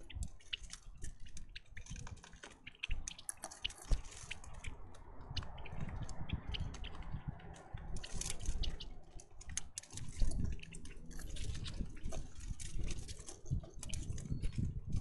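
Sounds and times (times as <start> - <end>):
birds pecking seed: 0.0 - 15.0.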